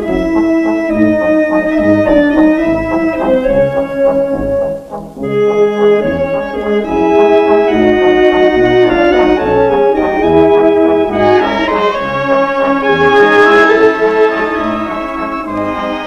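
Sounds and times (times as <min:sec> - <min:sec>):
military brass band music: 0:00.0 - 0:16.0.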